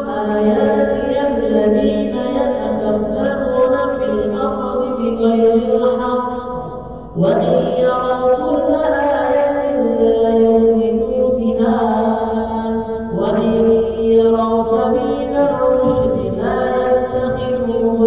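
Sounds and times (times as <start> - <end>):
person chanting recitation: 0.0 - 6.6, 7.2 - 18.0.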